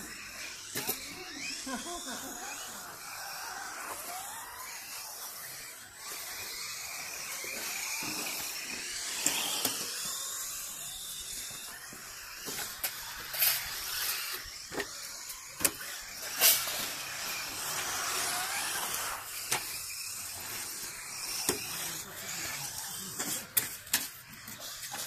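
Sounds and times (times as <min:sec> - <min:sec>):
electric motor whine: 0:00.0 - 0:25.0.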